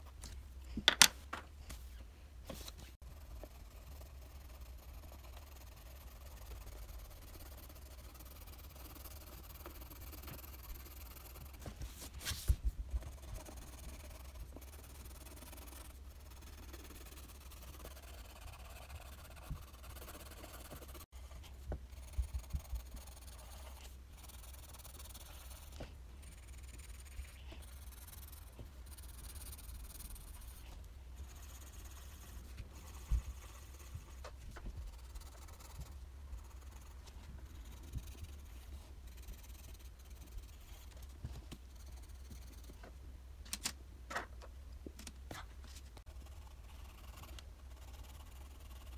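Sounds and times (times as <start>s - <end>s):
pencil scratching on paper: 2.5s - 42.8s, 46.0s - 48.9s.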